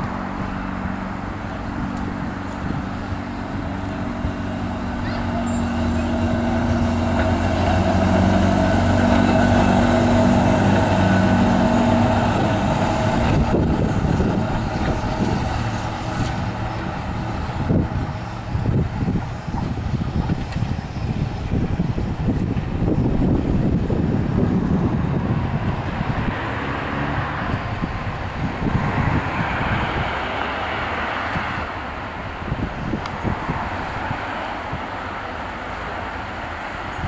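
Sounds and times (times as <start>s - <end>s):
tram motor and gear hum: 0.0s - 37.0s.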